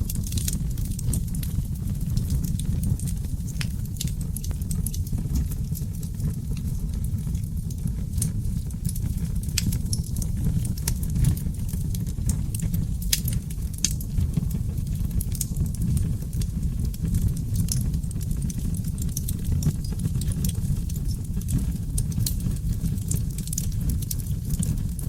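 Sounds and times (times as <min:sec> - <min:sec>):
fire flames rumbling: 0:00.0 - 0:25.0
logs crackling and popping: 0:00.0 - 0:25.0.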